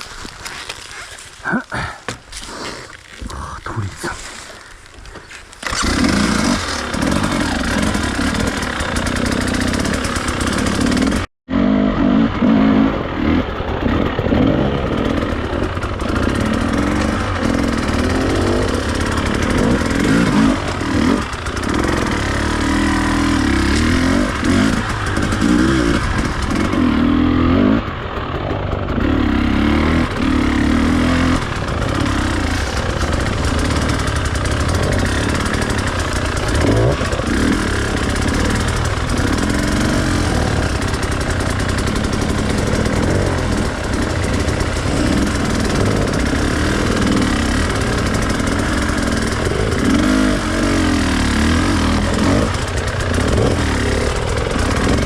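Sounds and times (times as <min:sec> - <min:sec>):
dirt bike engine revving: 0:04.2 - 0:55.0.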